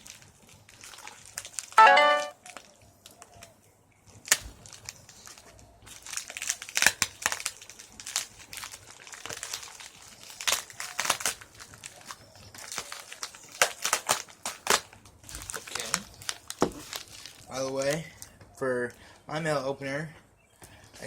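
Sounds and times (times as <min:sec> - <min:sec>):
packaging crinkling: 0:00.0 - 0:03.5, 0:04.1 - 0:18.4.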